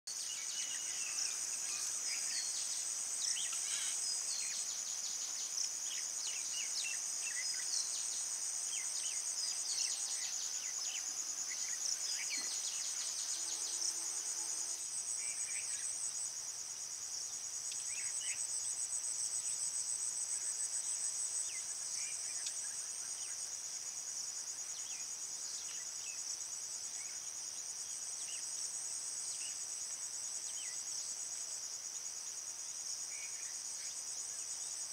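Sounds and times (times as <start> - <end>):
insect chirps: 0.1 - 34.9.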